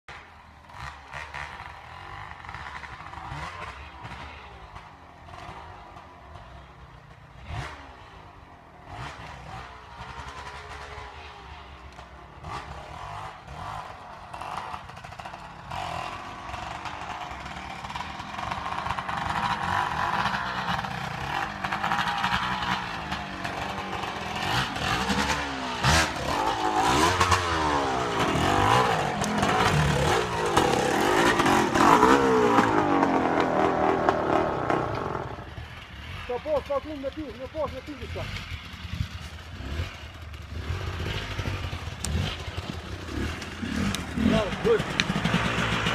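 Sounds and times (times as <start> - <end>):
dirt bike engines revving: 0.1 - 45.9.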